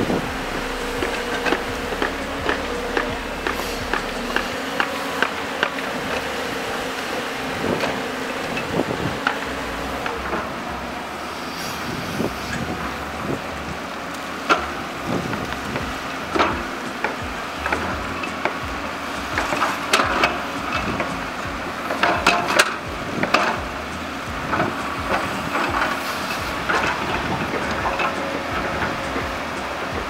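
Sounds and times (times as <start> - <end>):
excavator engine hum: 0.0 - 30.0
metal clanks and knocks: 0.0 - 30.0.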